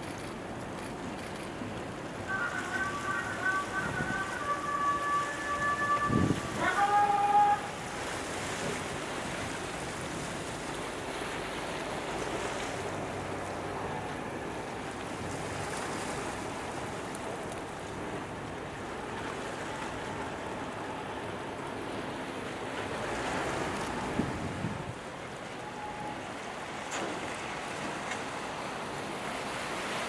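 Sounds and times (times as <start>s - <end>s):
water washing: 0.0s - 30.0s
wind: 0.0s - 30.0s.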